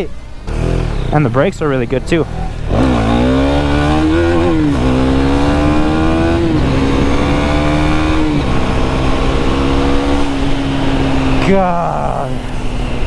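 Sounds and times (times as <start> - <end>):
motorcycle engine accelerating: 0.0 - 13.0
road and wind noise: 0.0 - 13.0.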